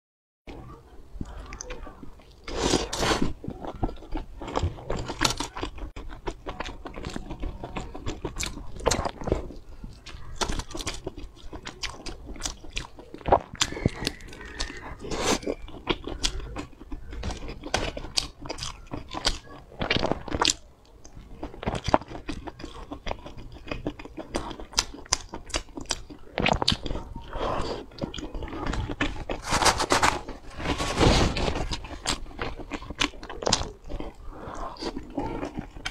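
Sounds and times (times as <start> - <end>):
person biting and chewing food: 1.2 - 35.9.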